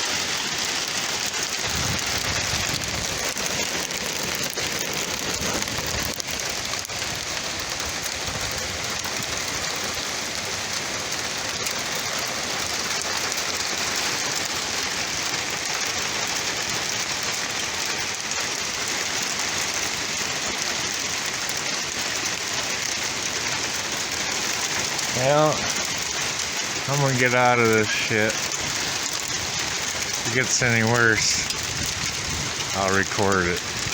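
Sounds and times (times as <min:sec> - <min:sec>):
rain and hail pelting down: 0:00.0 - 0:33.9.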